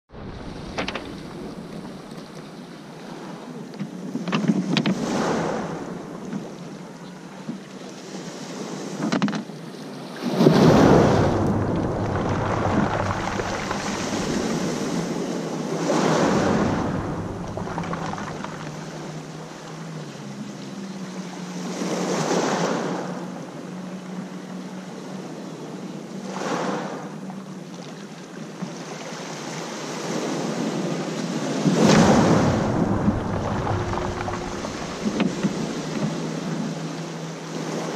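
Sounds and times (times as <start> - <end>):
waves breaking on shore: 0.1 - 37.9.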